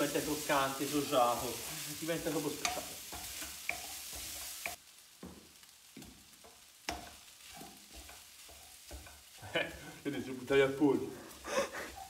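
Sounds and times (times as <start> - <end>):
rice sizzling in a pan: 0.0 - 12.0
spatula scraping a pan: 0.1 - 4.8, 6.0 - 10.3, 11.2 - 12.0.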